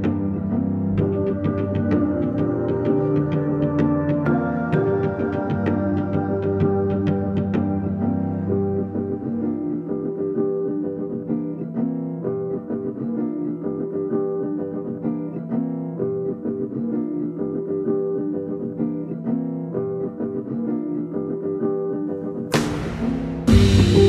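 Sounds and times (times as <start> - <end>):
plucked guitar music: 0.0 - 24.0.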